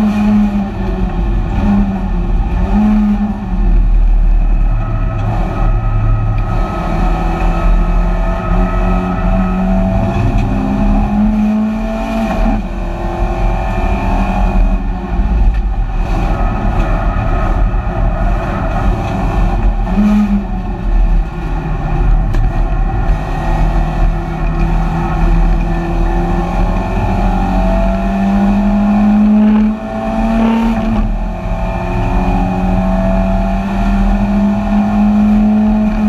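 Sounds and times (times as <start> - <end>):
race car engine running hard: 0.0 - 36.0.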